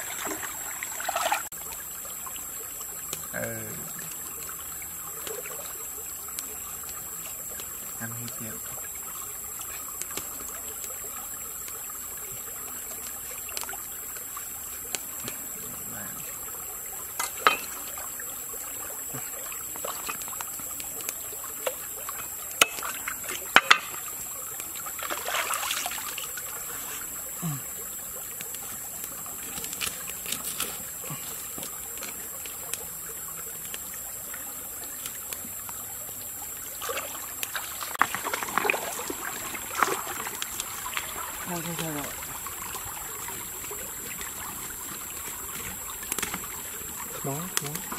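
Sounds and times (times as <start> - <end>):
stream trickling over rocks: 0.0 - 47.9.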